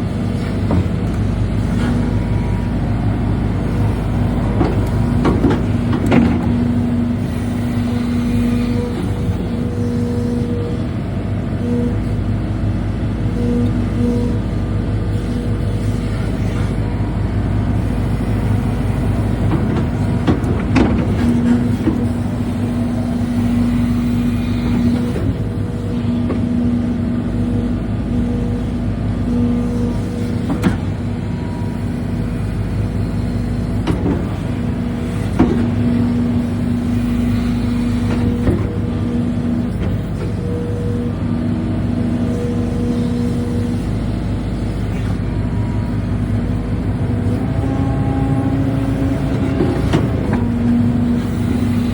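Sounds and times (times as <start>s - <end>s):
excavator diesel engine and hydraulics: 0.0s - 51.9s
steady humming tone: 0.0s - 51.9s.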